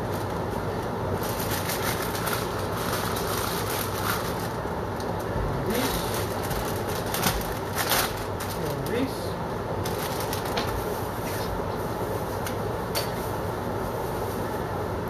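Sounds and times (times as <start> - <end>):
plastic bag rustling: 0.0 - 12.4.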